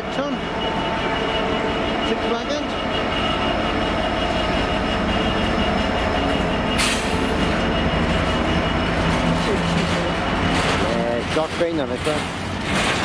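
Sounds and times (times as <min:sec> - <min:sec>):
diesel locomotive engine drone: 0:00.0 - 0:13.0
wheels rolling on rails: 0:01.0 - 0:13.0.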